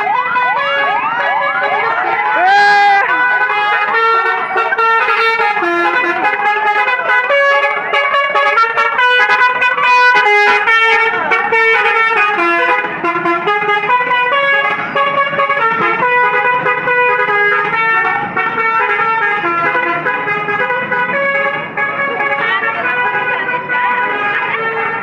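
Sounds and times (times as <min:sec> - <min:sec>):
musical bus horn melody: 0:00.0 - 0:25.0.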